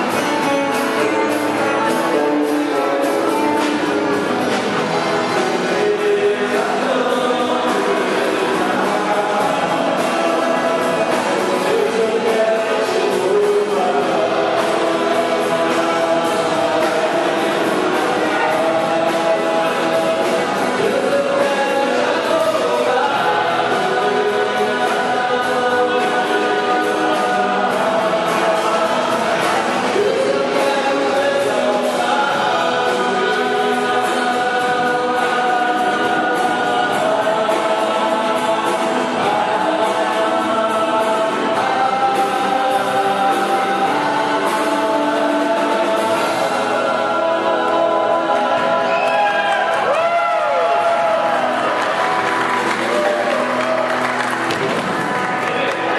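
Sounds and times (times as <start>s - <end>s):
choir singing: 0.0s - 55.9s
instrumental accompaniment: 0.0s - 55.9s.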